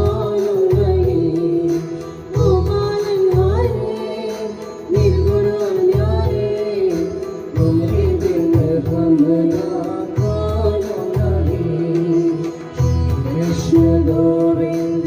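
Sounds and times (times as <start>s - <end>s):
ornamented devotional melody: 0.0s - 15.0s.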